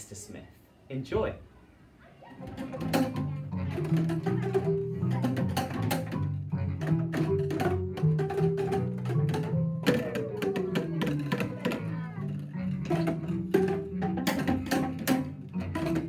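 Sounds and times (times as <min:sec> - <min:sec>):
children striking boomwhacker tubes: 0:02.3 - 0:16.0
musical accompaniment: 0:02.4 - 0:16.0.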